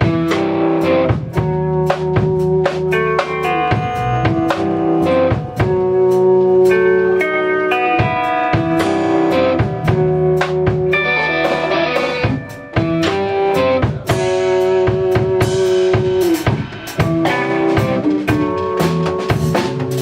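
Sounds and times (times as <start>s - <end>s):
drum hits: 0.0s - 6.8s, 8.0s - 20.0s
live band playing instrumental music: 0.0s - 20.0s.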